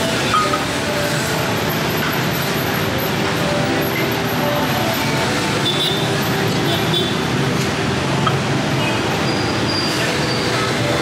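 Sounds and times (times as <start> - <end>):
traffic running by: 0.0 - 11.0.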